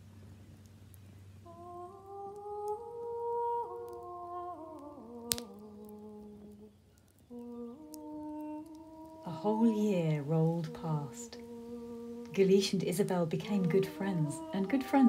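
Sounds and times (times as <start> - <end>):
sharp crackle: 0.0 - 14.3
person humming a slow melody: 1.4 - 15.0.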